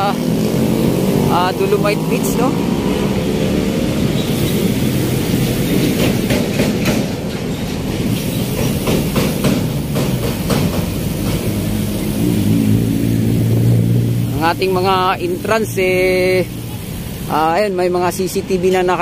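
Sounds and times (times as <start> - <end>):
vehicle engine hum: 0.0 - 6.4, 7.2 - 19.0
road traffic rumble: 0.0 - 19.0.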